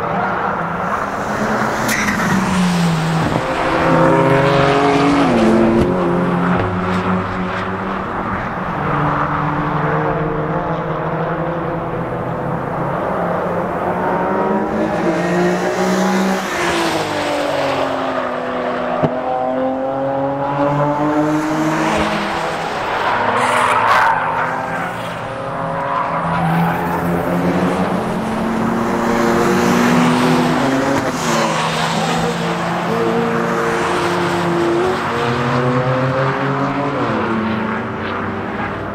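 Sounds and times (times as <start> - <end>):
sports car engines accelerating: 0.0 - 38.9.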